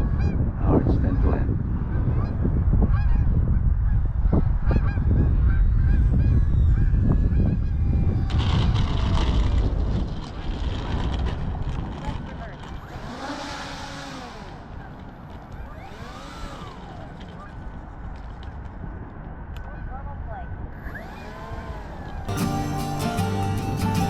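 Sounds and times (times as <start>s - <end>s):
wind rumble on microphone: 0.0s - 22.3s.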